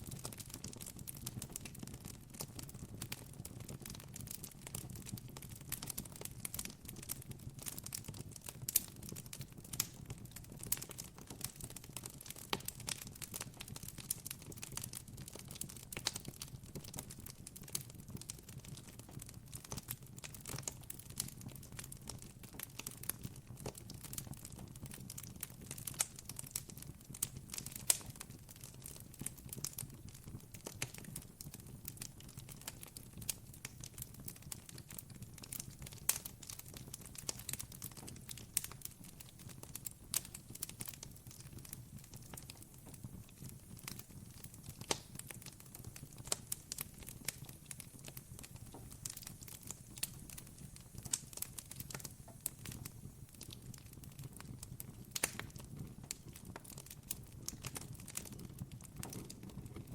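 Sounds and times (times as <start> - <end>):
campfire crackling: 7.9 - 59.7.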